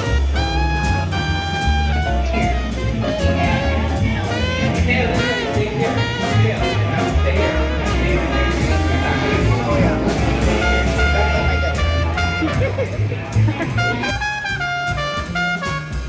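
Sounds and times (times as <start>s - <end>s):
upbeat jazzy music with horns: 0.0s - 16.0s.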